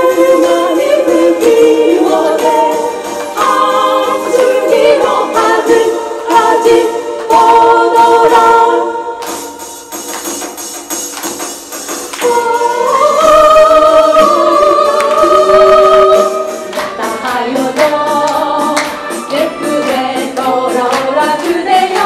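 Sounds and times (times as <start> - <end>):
women singing together: 0.0 - 9.8, 12.2 - 22.0
musical accompaniment: 0.0 - 22.0.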